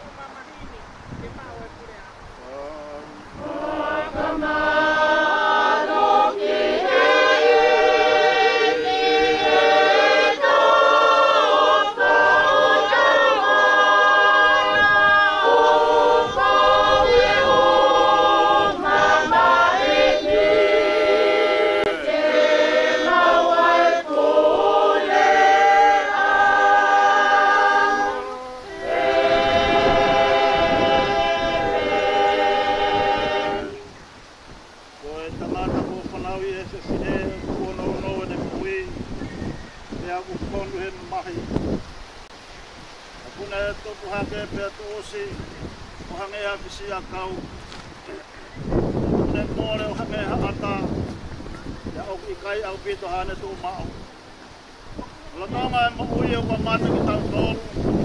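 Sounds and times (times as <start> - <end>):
group singing a hymn: 2.5 - 58.0.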